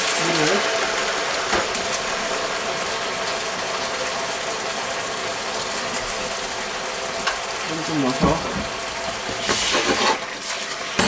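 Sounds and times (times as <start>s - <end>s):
wok sizzling and crackling: 0.0s - 11.0s.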